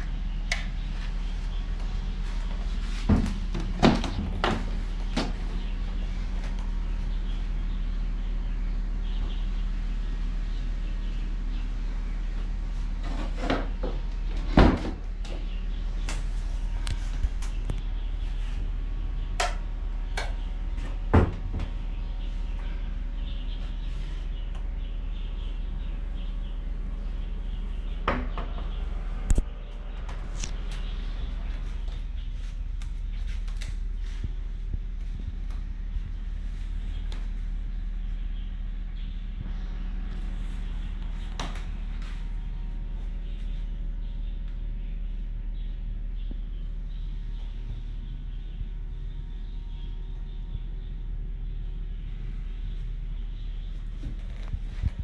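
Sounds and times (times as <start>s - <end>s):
low background rumble: 0.0s - 55.0s
steady low hum: 0.0s - 55.0s.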